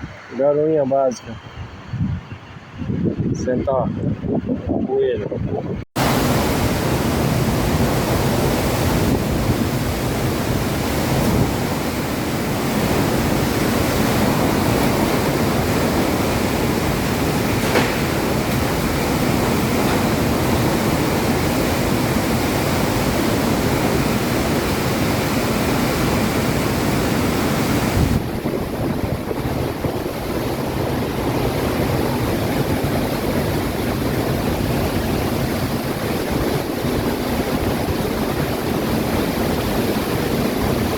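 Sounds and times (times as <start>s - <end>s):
wind gusts buffeting microphone: 0.0s - 40.9s
heavy rain: 6.0s - 40.9s.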